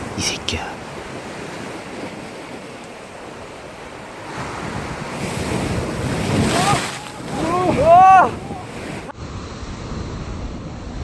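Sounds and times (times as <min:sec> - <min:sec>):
sea swell washing on shore: 0:00.0 - 0:11.0
wind buffeting microphone: 0:00.8 - 0:11.0.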